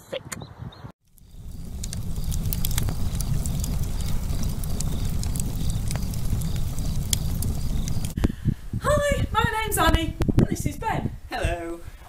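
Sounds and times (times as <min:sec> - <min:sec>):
fire crackling and popping: 0:01.0 - 0:11.9
wood fire rumbling: 0:01.0 - 0:11.9.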